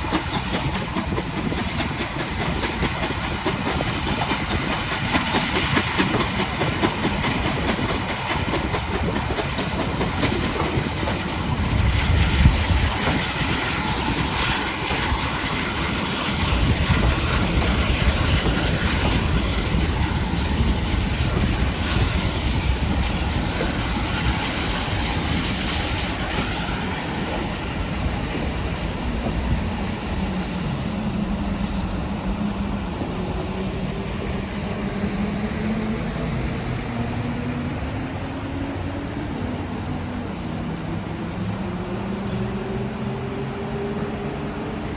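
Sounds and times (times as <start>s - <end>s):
steam hiss: 0.0s - 40.1s
train wheels rumbling on rails: 0.0s - 44.9s.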